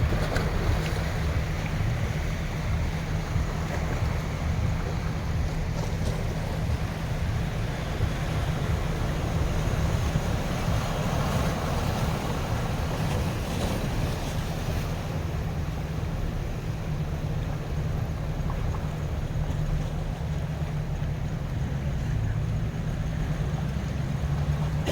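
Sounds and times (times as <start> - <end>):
ocean waves washing on shore: 0.0 - 24.9
wind rumble on microphone: 0.0 - 24.9.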